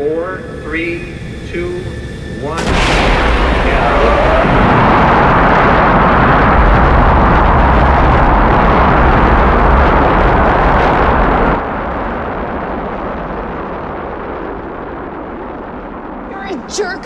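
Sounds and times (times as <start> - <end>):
rocket engines rumbling: 0.0 - 17.0.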